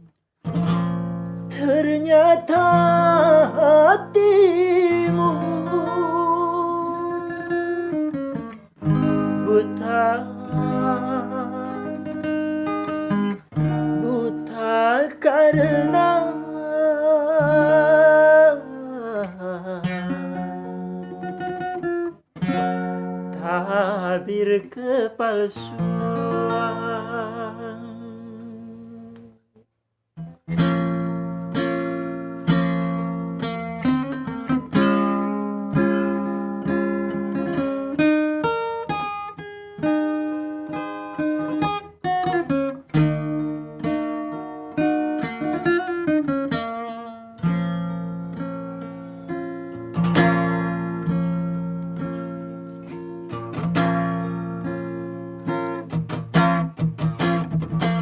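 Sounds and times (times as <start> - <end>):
acoustic guitar playing: 0.0 - 29.6, 30.2 - 58.0.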